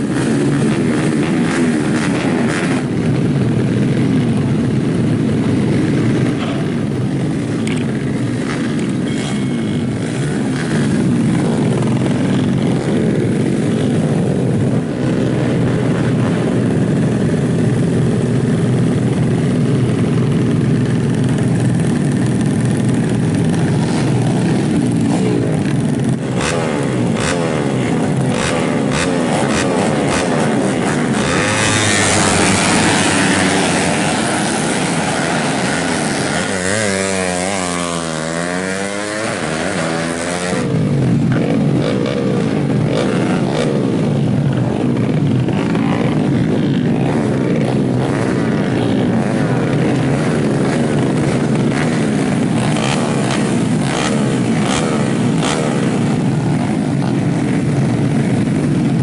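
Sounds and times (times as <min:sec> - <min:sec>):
engine crackles: 0:00.0 - 0:59.0
motorcycles revving: 0:00.0 - 0:59.0.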